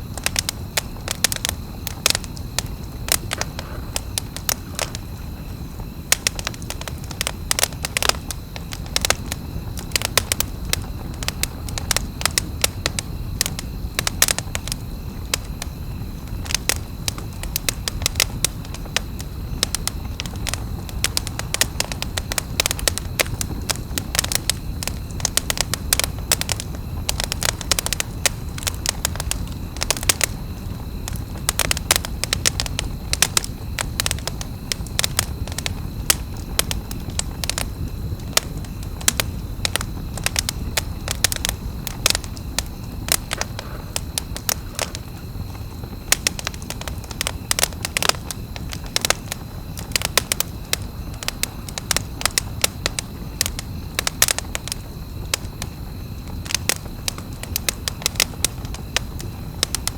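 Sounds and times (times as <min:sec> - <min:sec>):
campfire crackling: 0:00.0 - 0:59.9
fire pops and snaps: 0:00.0 - 0:59.9
low rumble of burning: 0:00.0 - 0:59.9.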